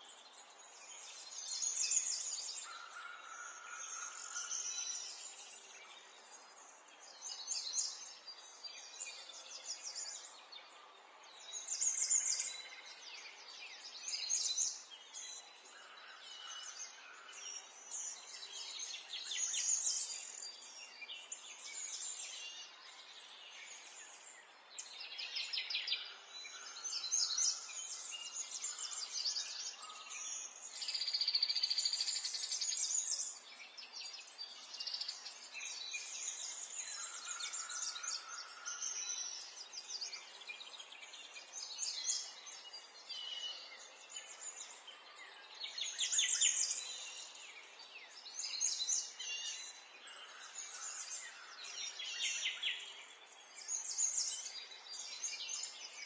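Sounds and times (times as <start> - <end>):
birds chirping and trilling: 0.4 - 56.0.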